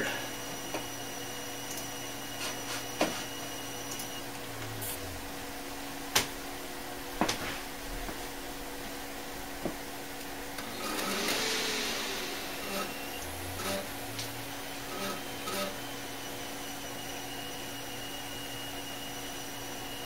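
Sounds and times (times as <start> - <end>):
faint high whine: 0.0 - 9.6, 10.3 - 19.2
computer fan hum: 0.0 - 20.0.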